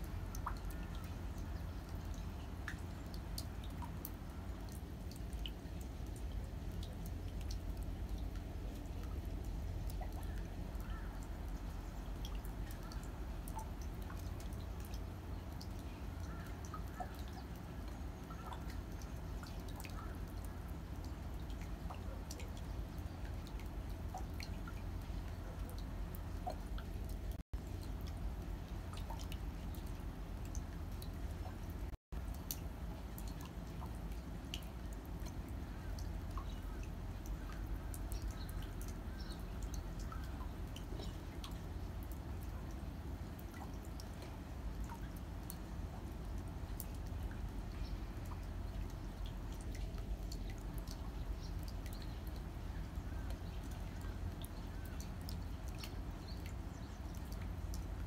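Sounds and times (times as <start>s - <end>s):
raindrops dripping on paving: 0.0s - 58.0s.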